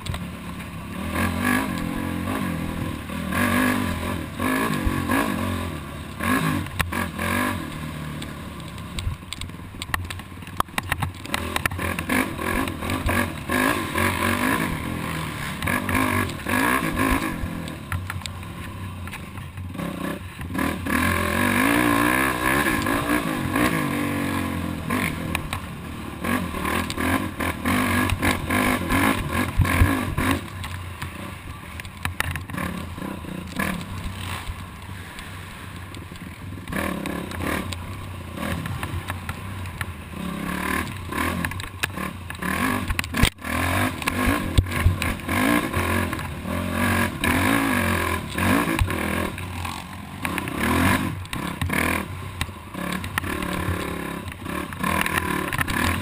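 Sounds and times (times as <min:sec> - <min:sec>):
quad engine revving: 0:00.0 - 0:09.0, 0:10.8 - 0:18.6, 0:19.7 - 0:39.4, 0:40.1 - 0:56.0.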